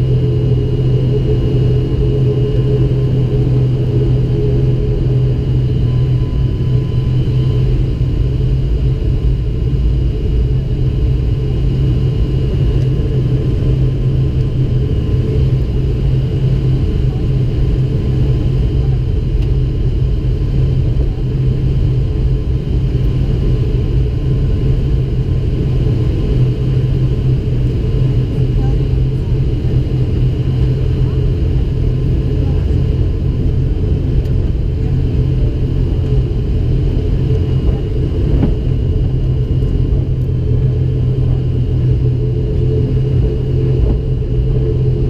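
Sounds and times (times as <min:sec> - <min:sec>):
turboprop engines droning in cabin: 0:00.0 - 0:45.0.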